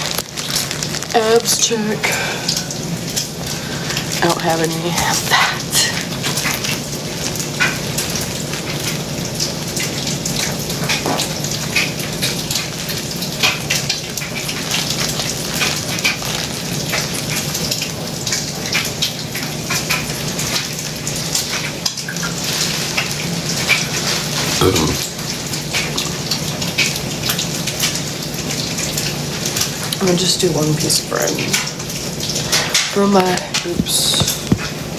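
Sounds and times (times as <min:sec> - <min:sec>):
food sizzling in a frying pan: 0:00.0 - 0:34.9.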